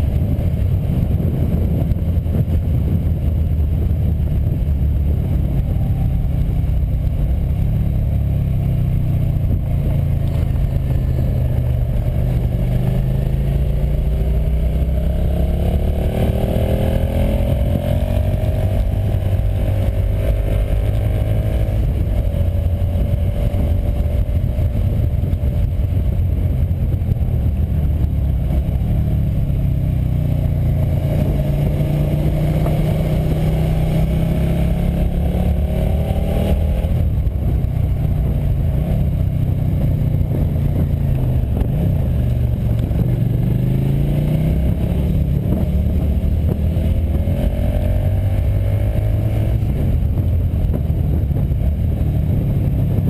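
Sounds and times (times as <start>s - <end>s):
motorcycle engine revving: 0.0s - 53.0s
wind rushing: 0.0s - 53.0s.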